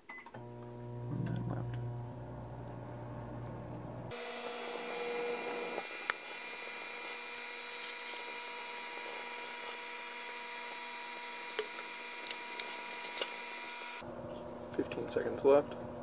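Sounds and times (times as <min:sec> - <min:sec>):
microwave drone: 0:00.4 - 0:14.4.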